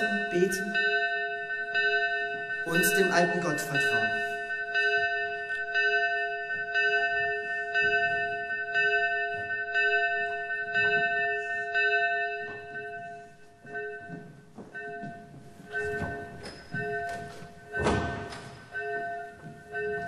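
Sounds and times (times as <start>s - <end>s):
chapel bell tolling: 0.0s - 20.0s.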